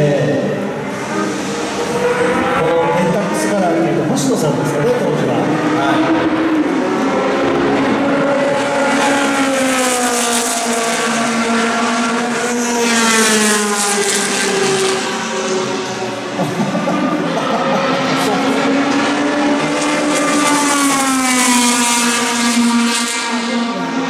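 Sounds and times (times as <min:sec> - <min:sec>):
racing car engine passing by: 0:00.0 - 0:24.0.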